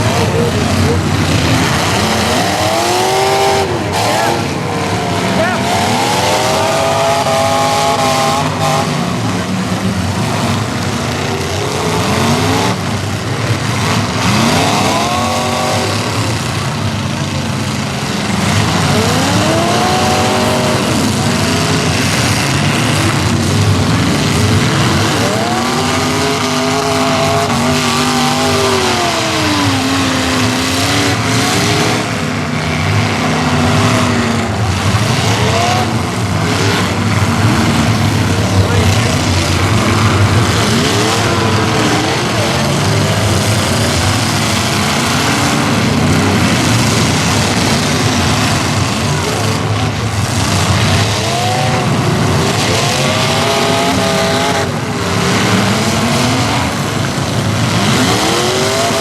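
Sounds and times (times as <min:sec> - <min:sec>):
car engines revving: 0:00.0 - 0:59.0
din of engines running: 0:00.0 - 0:59.0.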